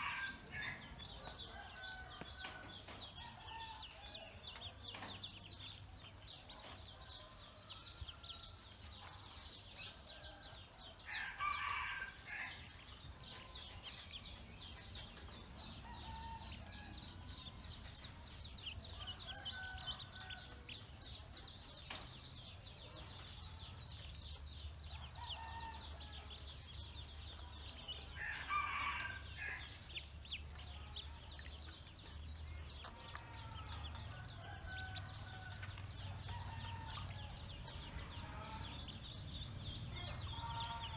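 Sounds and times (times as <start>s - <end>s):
ducklings peeping: 0.0s - 10.8s, 12.8s - 40.9s.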